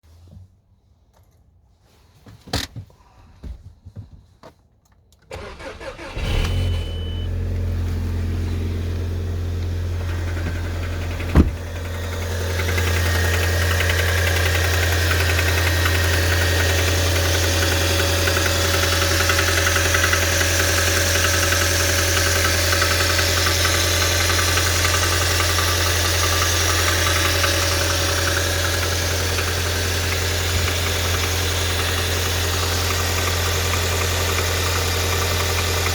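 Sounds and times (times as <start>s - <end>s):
car engine starting and idling: 5.3s - 35.9s.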